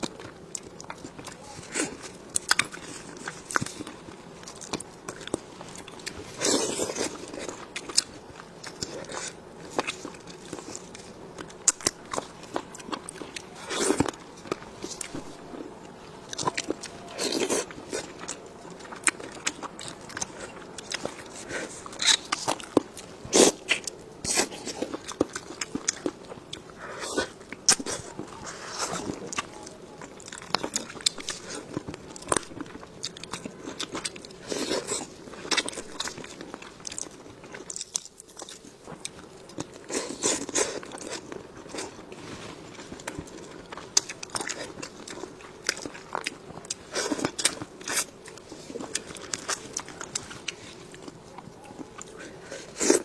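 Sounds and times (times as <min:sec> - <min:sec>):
crunching crisp fried food: 0:00.0 - 0:53.0
wet chewing: 0:00.0 - 0:53.0.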